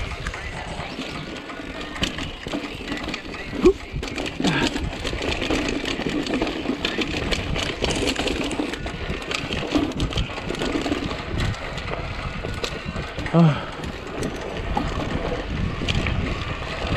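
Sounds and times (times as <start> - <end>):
bike chain and frame clatter: 0.0 - 16.9
tyres crunching over stones: 0.0 - 16.9.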